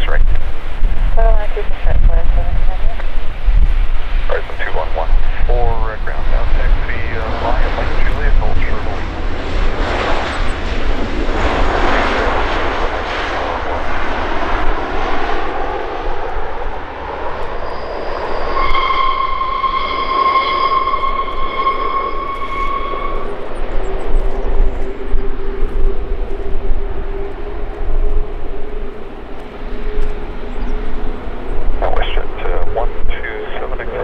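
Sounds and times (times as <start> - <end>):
jet engines rushing and whining: 0.0 - 34.0.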